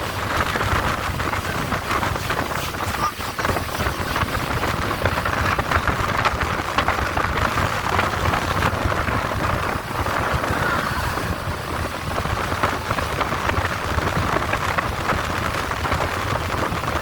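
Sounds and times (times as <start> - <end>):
boat engine: 0.0 - 17.0
water noise: 0.0 - 17.0
wind buffeting microphone: 0.0 - 17.0.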